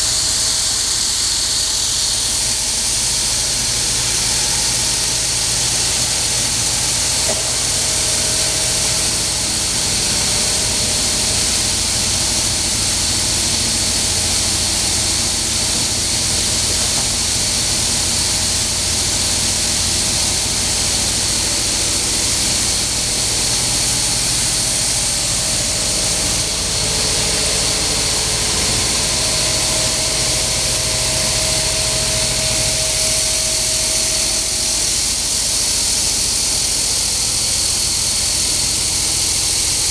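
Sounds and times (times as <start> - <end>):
faint motor whine: 0.0 - 39.9
machine motor hiss and hum: 0.0 - 39.9.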